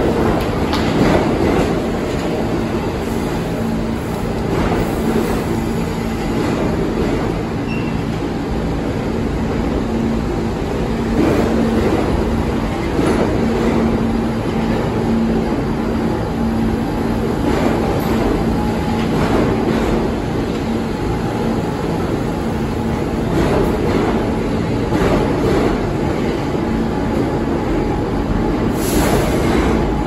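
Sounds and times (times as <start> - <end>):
subway train wheels rumbling: 0.0 - 30.0.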